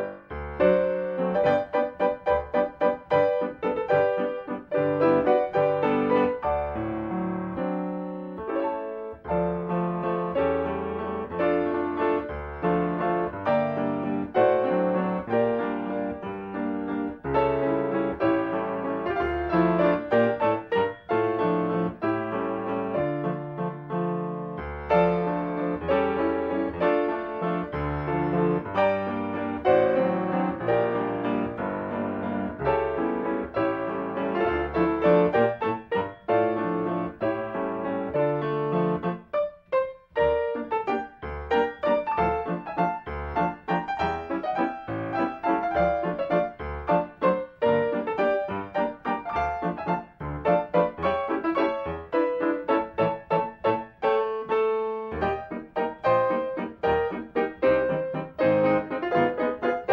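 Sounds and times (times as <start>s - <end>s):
solo piano music: 0.0s - 59.9s.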